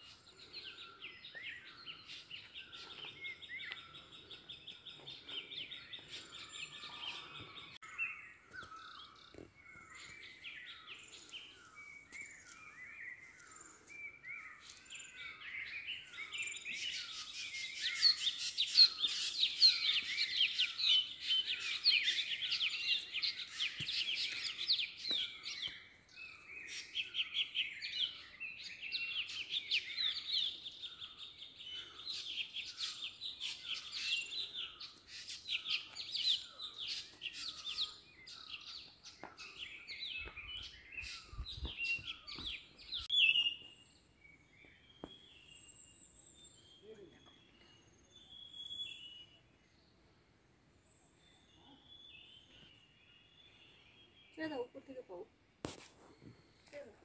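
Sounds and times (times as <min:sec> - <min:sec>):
forest birds chirping and trilling: 0:00.0 - 0:57.0.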